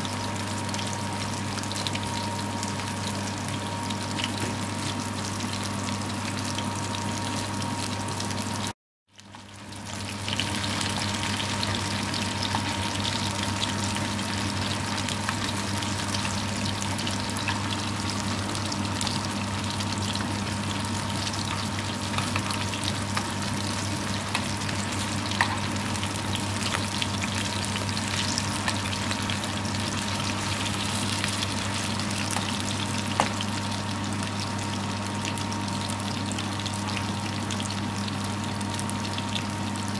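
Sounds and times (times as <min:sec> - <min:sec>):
meat sizzling in hot oil: 0:00.0 - 0:39.9.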